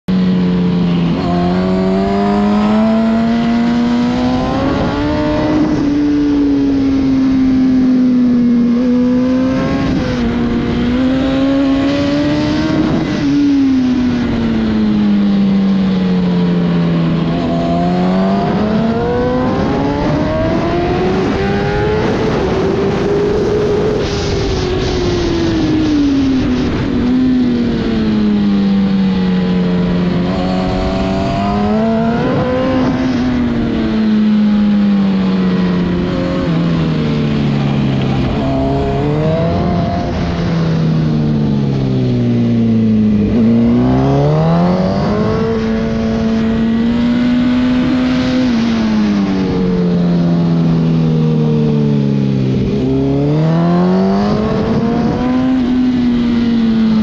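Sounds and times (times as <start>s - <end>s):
motorcycle engine revving: 0.1s - 57.0s.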